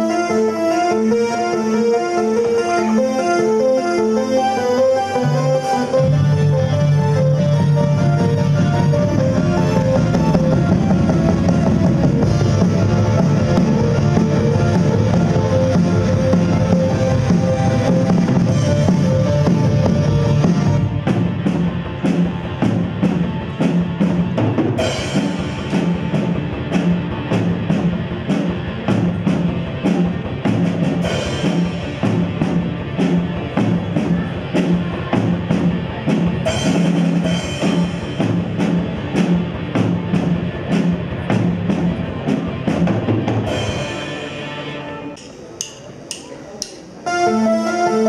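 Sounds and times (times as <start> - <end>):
live rock band playing: 0.0 - 45.2, 47.0 - 48.0
drum kit beat: 1.8 - 44.6.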